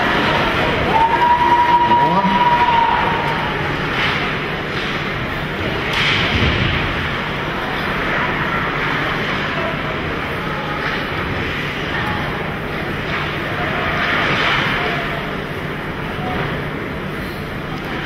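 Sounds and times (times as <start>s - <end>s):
ice hockey rink noise: 0.0s - 18.0s.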